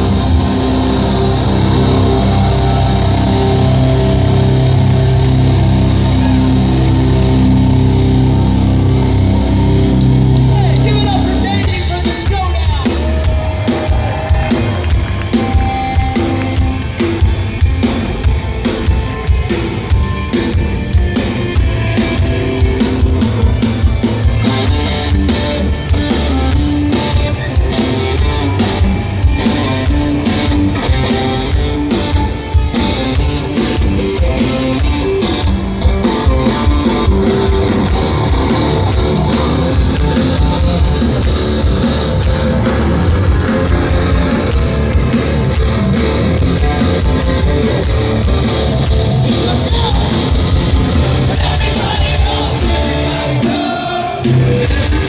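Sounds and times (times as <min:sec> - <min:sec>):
distorted electric guitars: 0:00.0 - 0:55.0
pounding drum kit: 0:00.0 - 0:55.0.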